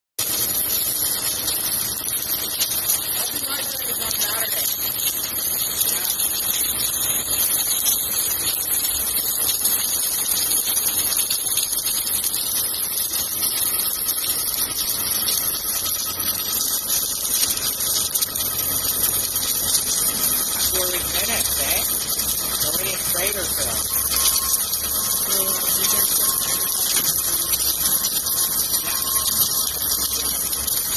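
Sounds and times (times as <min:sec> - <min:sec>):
welding hiss: 0:00.2 - 0:30.9.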